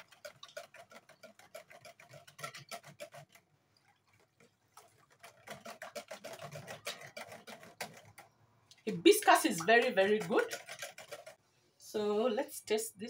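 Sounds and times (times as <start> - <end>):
spoon ticking against bucket: 0.0 - 11.4
spoon stirring liquid in bucket: 0.0 - 11.6.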